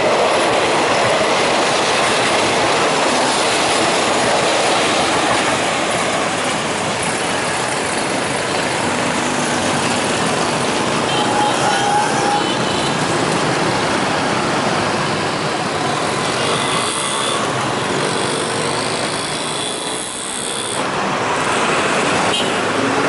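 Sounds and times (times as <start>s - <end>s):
bus passing: 0.0s - 19.5s, 20.8s - 23.0s
motorcycle engines: 0.0s - 23.0s
road traffic passing: 0.0s - 23.0s.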